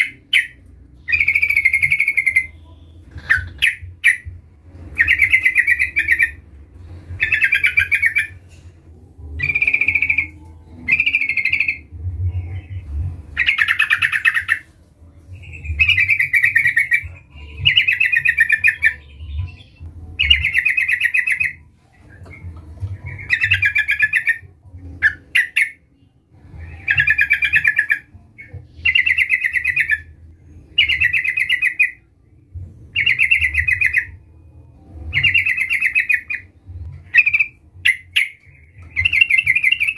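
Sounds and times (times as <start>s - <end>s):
bulbul chattering song: 0.0s - 8.6s, 9.2s - 39.9s
low steady hum: 0.0s - 39.9s.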